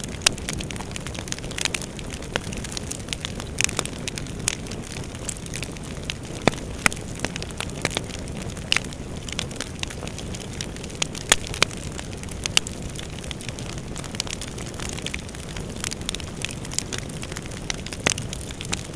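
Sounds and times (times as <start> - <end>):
burning wood crackling and popping: 0.0 - 18.9.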